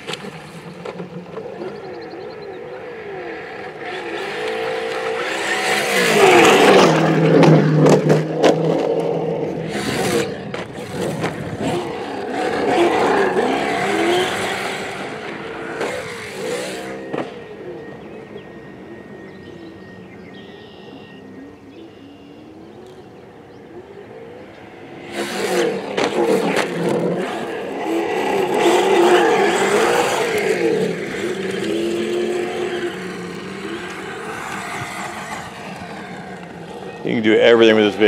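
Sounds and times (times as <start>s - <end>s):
electric motor whining: 0.0s - 38.0s
tyres on dirt: 0.0s - 38.0s.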